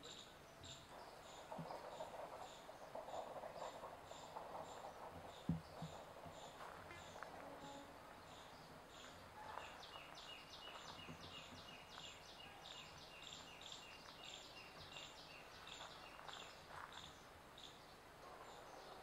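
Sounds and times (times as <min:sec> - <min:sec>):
faint outdoor ambience: 0:00.0 - 0:19.0.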